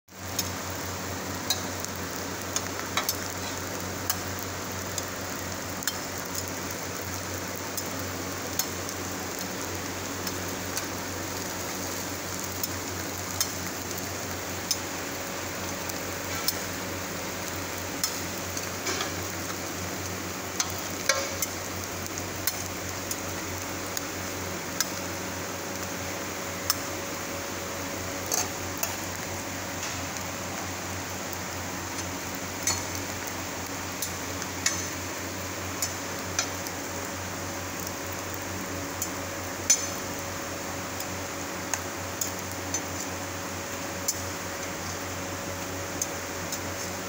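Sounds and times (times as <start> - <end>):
eggs sizzling on griddle: 0.1 - 47.0.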